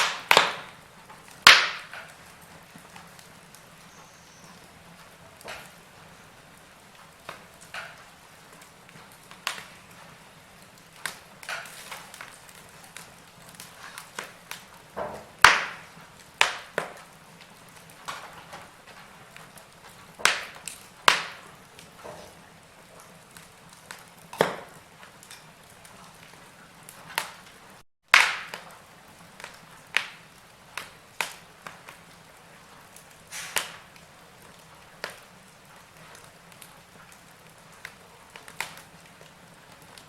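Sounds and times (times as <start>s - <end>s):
sharp pops of burning logs: 0.0s - 40.0s
wood fire crackling: 0.0s - 40.0s.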